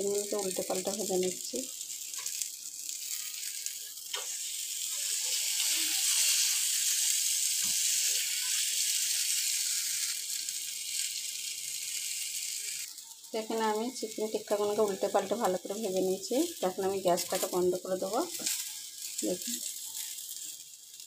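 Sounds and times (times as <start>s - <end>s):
meat sizzling in grill pan: 0.0s - 21.0s.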